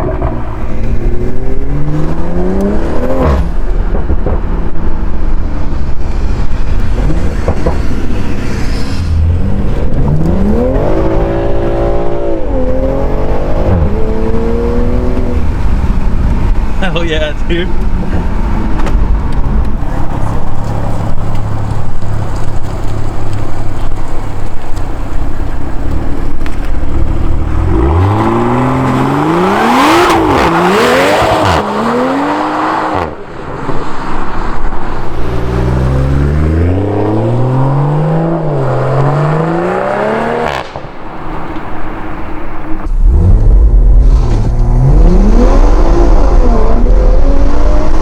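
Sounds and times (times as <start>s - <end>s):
car engine revving with upshifts: 0.0s - 48.0s.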